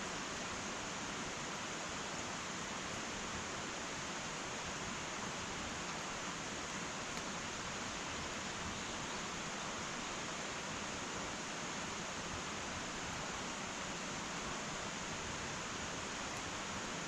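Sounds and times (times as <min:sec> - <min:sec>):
wood fire hissing: 0:00.0 - 0:17.0.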